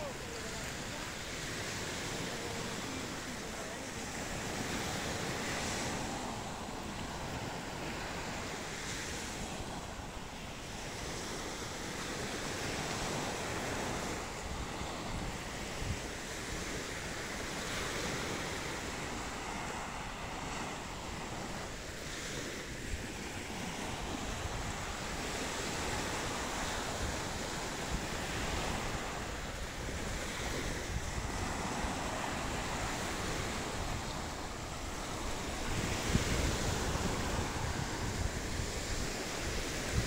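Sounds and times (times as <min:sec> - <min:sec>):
sea waves breaking on beach: 0:00.0 - 0:40.0
wind rumbling on microphone: 0:00.0 - 0:40.0.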